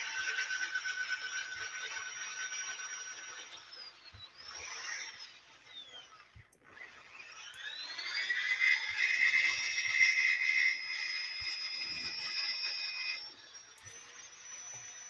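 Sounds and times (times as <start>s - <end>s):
drill sanding whine: 0.0s - 15.0s.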